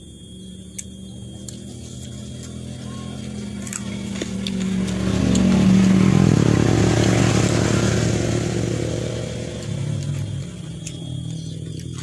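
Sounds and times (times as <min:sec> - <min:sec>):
vehicle engine passing by: 0:01.1 - 0:12.0.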